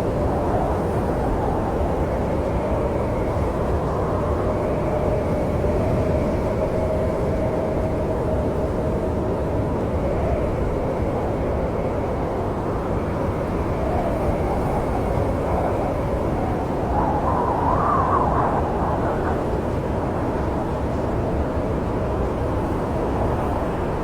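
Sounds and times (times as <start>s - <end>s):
snowstorm wind howling: 0.0s - 24.0s.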